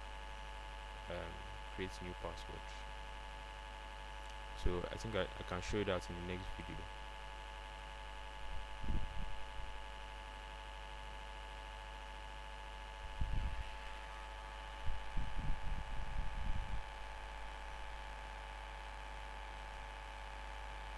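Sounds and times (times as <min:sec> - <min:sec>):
steady multi-tone whine: 0:00.0 - 0:20.9.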